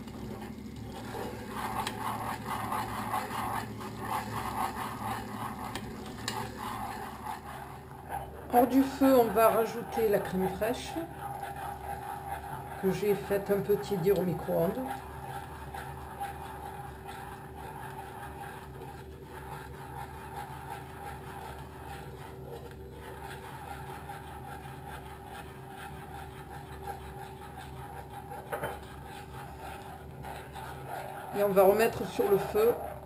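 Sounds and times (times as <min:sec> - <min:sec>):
utensil scraping saucepan: 0:00.0 - 0:33.0.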